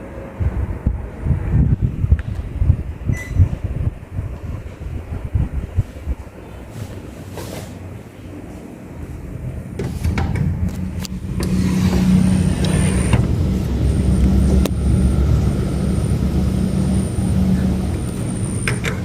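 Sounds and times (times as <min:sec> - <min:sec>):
air conditioner fan rumbling: 0:00.0 - 0:19.0.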